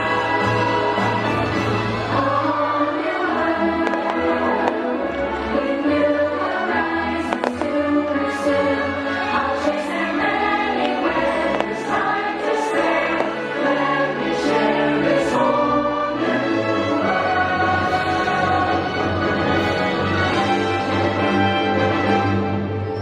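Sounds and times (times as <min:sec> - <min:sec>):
choir singing: 0:00.0 - 0:22.0
orchestral music: 0:00.0 - 0:23.0.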